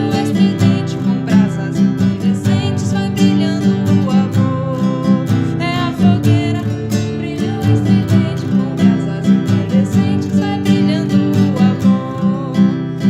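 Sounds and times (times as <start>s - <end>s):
person singing: 0.0s - 13.0s
strummed acoustic guitar: 0.0s - 13.0s.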